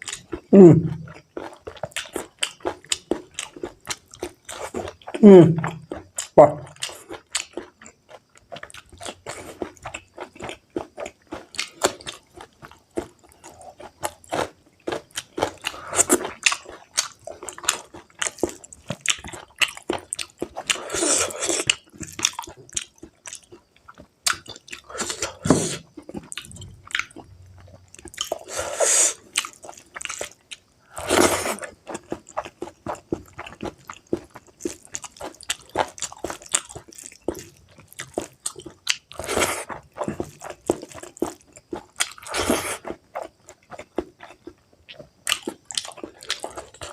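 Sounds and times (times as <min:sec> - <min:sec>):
wet chewing and smacking: 0:00.0 - 0:46.9.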